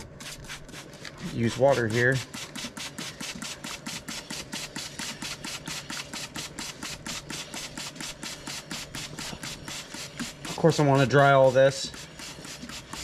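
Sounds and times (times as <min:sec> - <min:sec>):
spray bottle squirting: 0:00.0 - 0:13.0.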